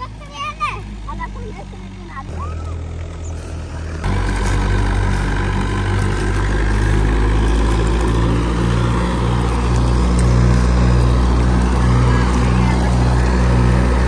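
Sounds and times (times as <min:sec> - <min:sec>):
thresher engine droning: 0:00.0 - 0:14.0.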